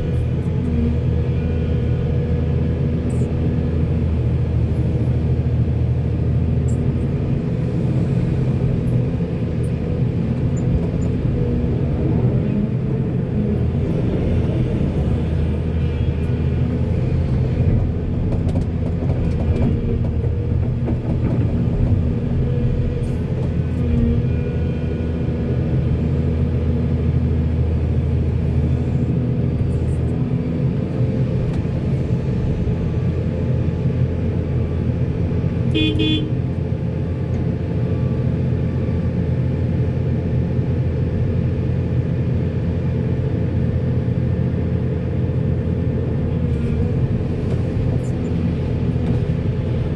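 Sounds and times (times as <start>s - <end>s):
heavy diesel engines running: 0.0s - 49.9s.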